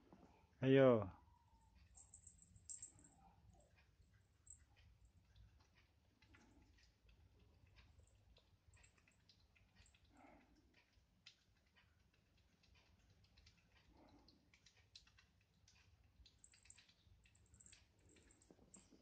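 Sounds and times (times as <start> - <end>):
squirrel gnawing small clicks: 1.7 - 19.0.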